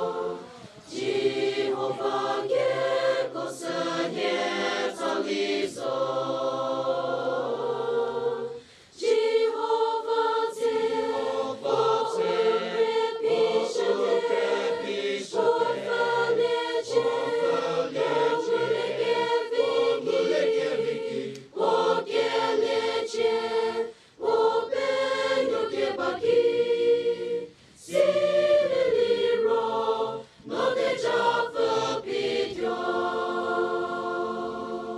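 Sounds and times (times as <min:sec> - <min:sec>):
mixed choir singing a hymn: 0:00.0 - 0:34.9.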